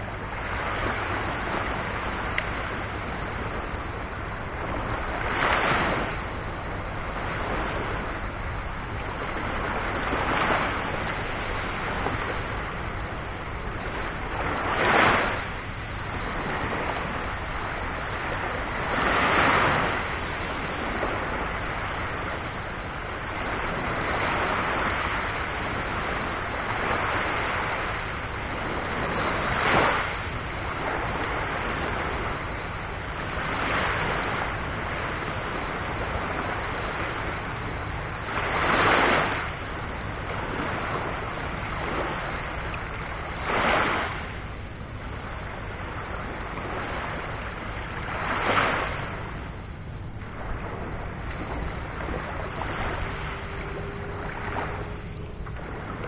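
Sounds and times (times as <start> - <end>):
small waves breaking on shore: 0.0 - 56.0
steady hiss of water: 0.0 - 56.0.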